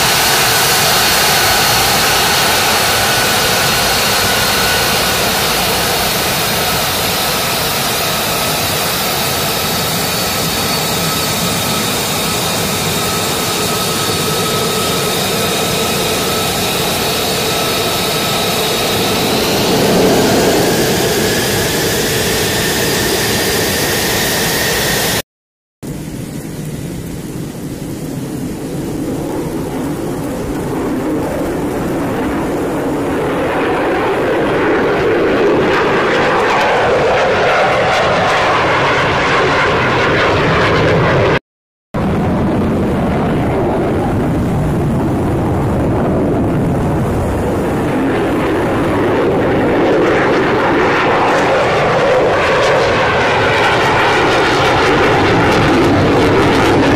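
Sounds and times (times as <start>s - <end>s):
distant jet rumble: 0.0s - 25.2s, 25.8s - 41.4s, 42.0s - 56.9s
jet whine with whistling tones: 0.0s - 25.2s, 25.9s - 41.4s, 42.0s - 56.9s.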